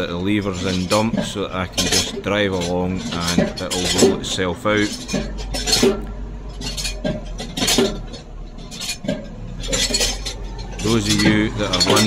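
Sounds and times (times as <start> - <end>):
metallic clinks and rattles: 0.0 - 12.0
tractor engine drone: 0.0 - 12.0.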